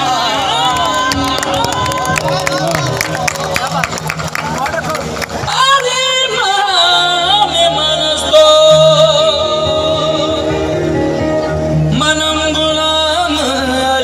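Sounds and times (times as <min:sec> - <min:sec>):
devotional music through a pa: 0:00.0 - 0:14.0.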